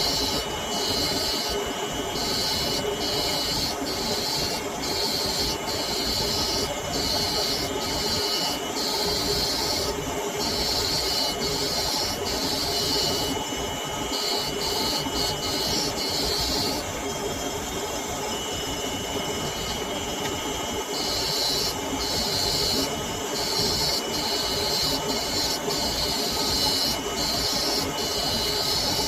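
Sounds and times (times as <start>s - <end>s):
blade hissing on sharpener: 0.0s - 13.4s, 14.0s - 16.8s, 21.0s - 29.0s
sharpening machine running: 0.0s - 29.0s.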